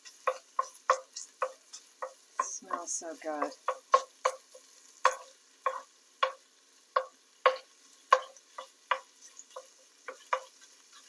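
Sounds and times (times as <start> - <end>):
meat sizzling: 0.0 - 11.0
spatula scraping skillet: 0.0 - 11.0.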